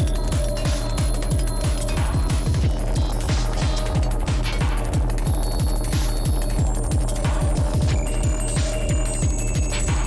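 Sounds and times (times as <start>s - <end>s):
electronic music: 0.0s - 10.0s
pounding bass kick: 0.0s - 10.0s.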